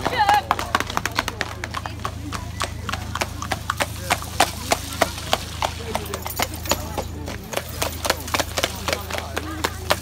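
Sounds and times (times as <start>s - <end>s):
crowd voices: 0.0s - 10.0s
hooves clip-clopping on wet road: 0.0s - 10.0s.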